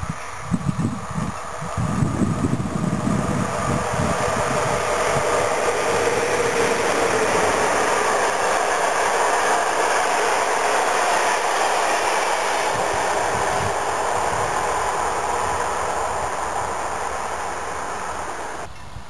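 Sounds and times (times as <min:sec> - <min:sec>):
train wheels rushing on rails: 0:00.0 - 0:19.0
wind buffeting microphone: 0:00.0 - 0:19.0.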